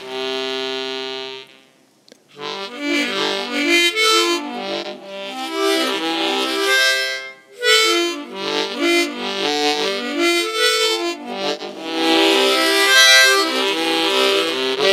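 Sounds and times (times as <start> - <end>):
harmonica playing a tune: 0.0 - 14.9.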